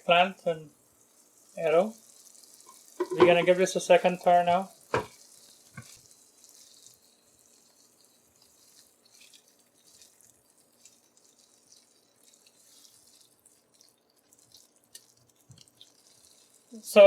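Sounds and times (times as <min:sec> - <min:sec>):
vegetables frying in pot: 0:00.0 - 0:17.0.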